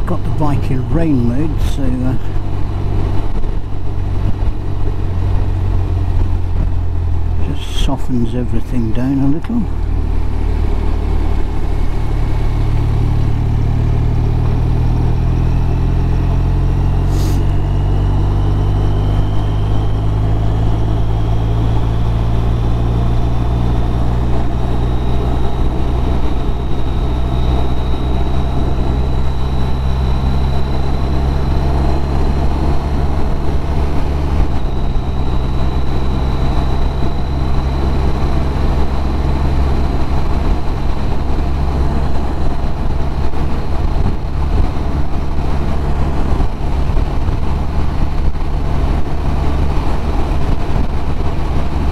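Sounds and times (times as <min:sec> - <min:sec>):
faint rising whine: 0:00.0 - 0:51.9
wind rushing over camera: 0:00.1 - 0:07.4, 0:09.4 - 0:51.9
motorcycle engine accelerating: 0:08.6 - 0:51.9.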